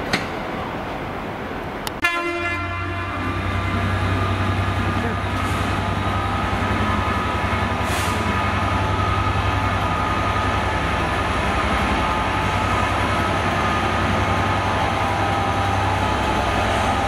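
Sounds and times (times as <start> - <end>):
train engine idling hum: 0.0 - 17.0.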